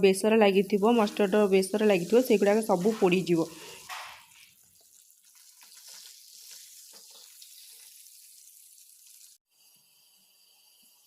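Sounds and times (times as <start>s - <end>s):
fish frying in hot oil: 0.8s - 11.0s.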